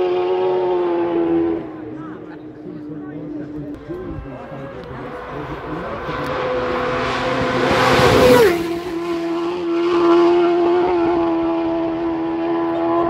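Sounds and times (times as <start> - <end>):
racing motorcycle passing: 0.0 - 13.0.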